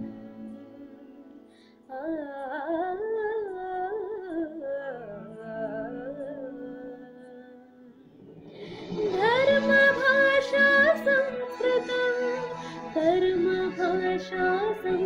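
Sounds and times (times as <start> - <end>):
girl singing wordless melody: 0.0 - 15.0.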